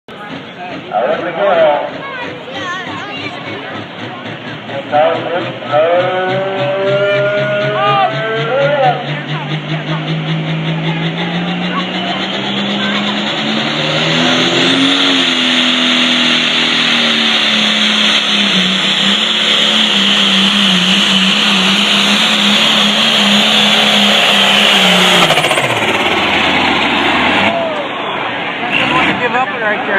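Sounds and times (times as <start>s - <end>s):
tractor engine at full throttle: 0.1s - 29.9s.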